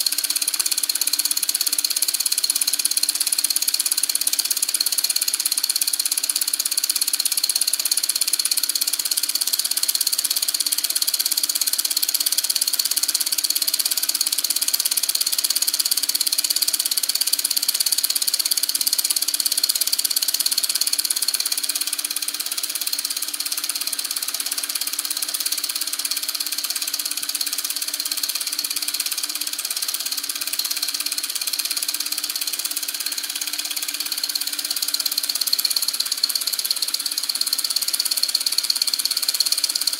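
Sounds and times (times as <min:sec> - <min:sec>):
solenoid engine mechanical clatter: 0:00.0 - 0:39.9.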